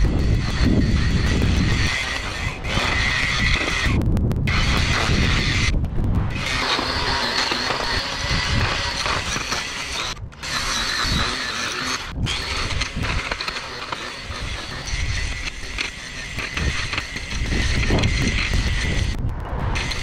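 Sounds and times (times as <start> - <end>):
string trimmer motor whine: 0.0 - 19.2, 19.8 - 20.0
trimmer line cutting grass: 0.0 - 19.2, 19.8 - 20.0.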